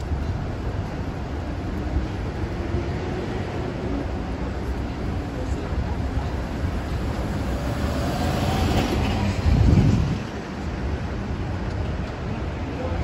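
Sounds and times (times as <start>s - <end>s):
streetcar rumbling: 0.0s - 13.0s.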